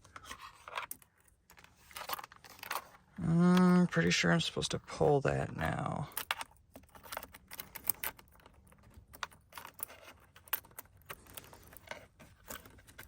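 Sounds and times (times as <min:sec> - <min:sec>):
small parts clicking and rattling: 0:00.0 - 0:03.8, 0:05.6 - 0:13.0.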